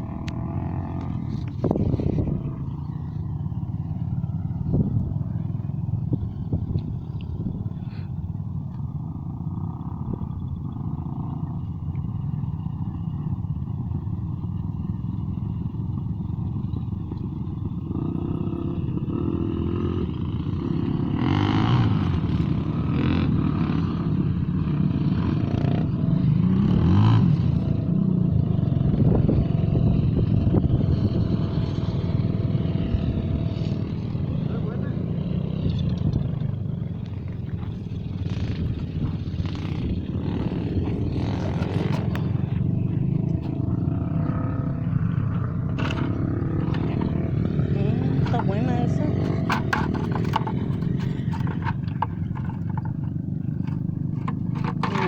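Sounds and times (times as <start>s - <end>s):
engine running with low rumble: 0.0s - 55.0s.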